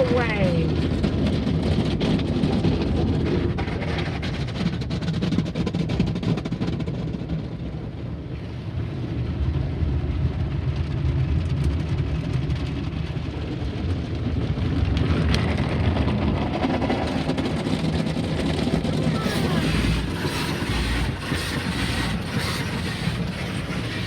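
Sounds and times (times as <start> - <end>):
car wash machinery rumble: 0.0 - 24.0.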